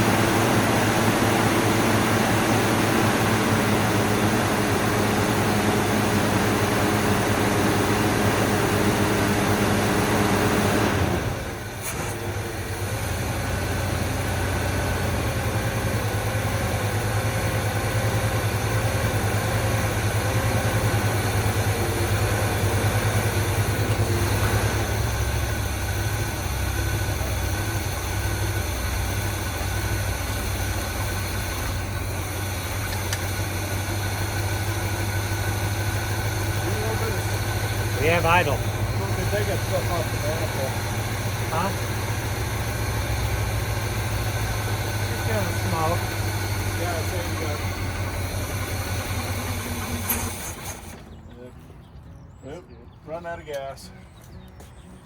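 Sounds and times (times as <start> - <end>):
pickup truck engine idling: 0.0 - 55.0.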